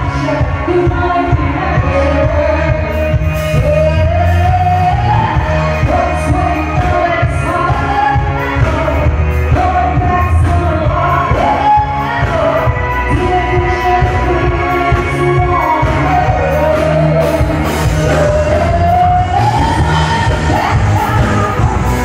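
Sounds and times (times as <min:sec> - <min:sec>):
lead vocal singing: 0:00.0 - 0:22.0
live band playing: 0:00.0 - 0:22.0.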